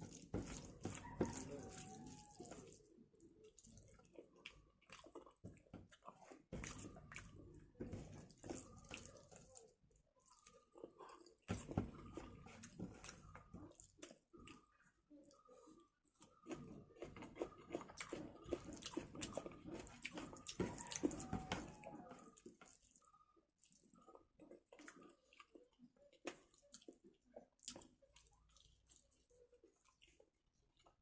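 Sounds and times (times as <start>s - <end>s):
wet chewing: 0.0s - 31.0s.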